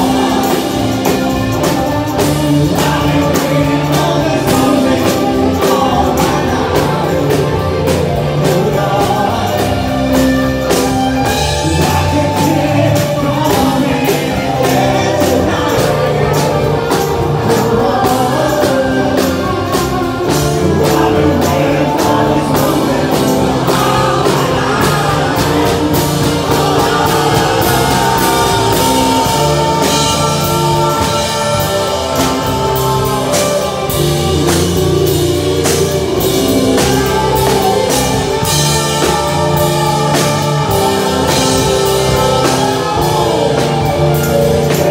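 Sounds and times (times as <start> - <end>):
drum kit beat: 0.0 - 44.9
electric guitar: 0.0 - 44.9
person singing: 0.0 - 44.9.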